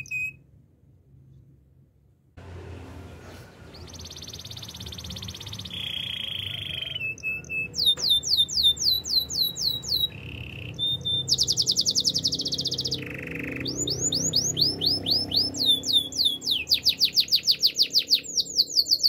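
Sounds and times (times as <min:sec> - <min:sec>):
canary singing: 0:00.0 - 0:00.4, 0:03.0 - 0:19.0.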